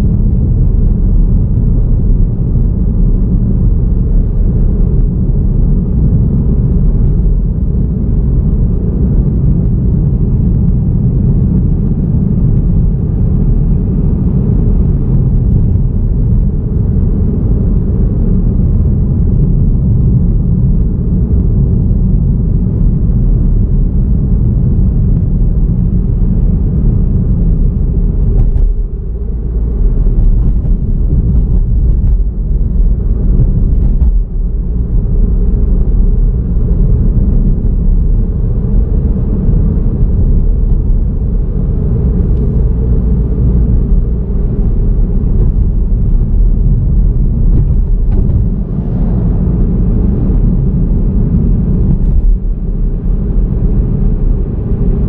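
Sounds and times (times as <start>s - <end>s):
car road rumble: 0.0s - 55.0s.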